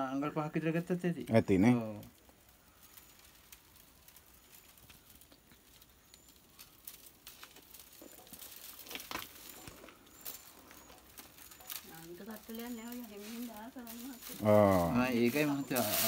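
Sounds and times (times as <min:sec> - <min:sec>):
dry sticks clicking and rustling: 0:02.0 - 0:16.0.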